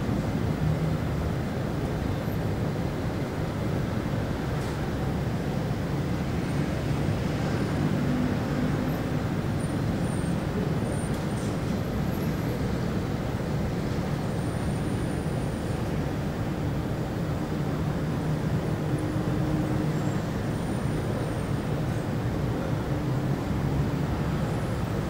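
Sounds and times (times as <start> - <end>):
traffic rumble: 0.0 - 25.0.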